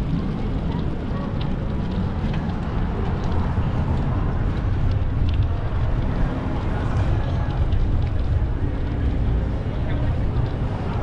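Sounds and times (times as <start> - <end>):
street traffic noise: 0.0 - 11.0
wind buffeting microphone: 0.0 - 11.0.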